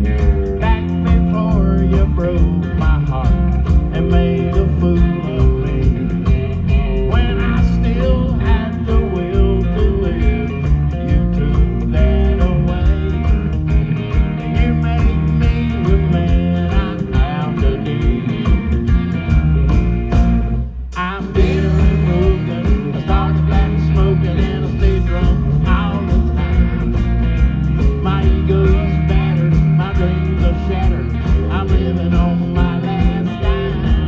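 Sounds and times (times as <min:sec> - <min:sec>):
country rock band playing: 0:00.0 - 0:34.0
steady drum beat: 0:00.0 - 0:34.0.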